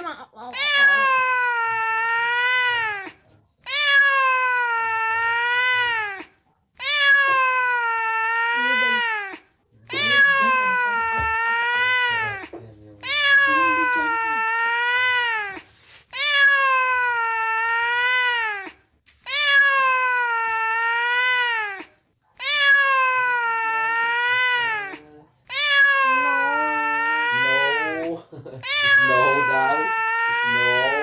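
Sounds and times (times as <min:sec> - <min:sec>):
cat meowing: 0:00.5 - 0:31.0.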